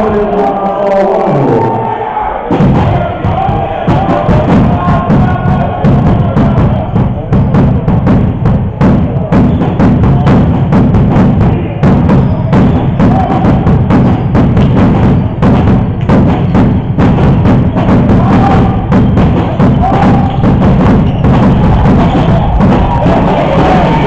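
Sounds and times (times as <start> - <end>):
rapid drum beats: 2.5 - 24.0.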